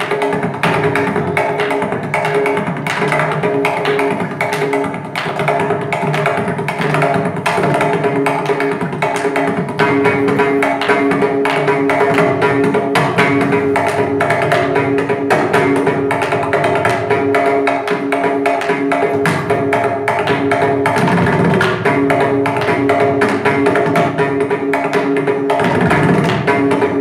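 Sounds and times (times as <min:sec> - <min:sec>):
mridangam drum solo: 0:00.0 - 0:27.0.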